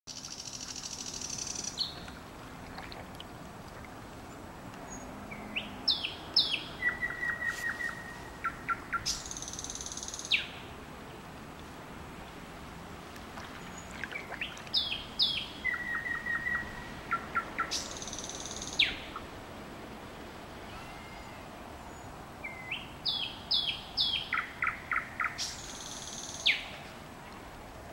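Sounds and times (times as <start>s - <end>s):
songbird singing: 0.1s - 3.4s, 4.1s - 11.2s, 13.4s - 19.4s, 20.6s - 27.0s.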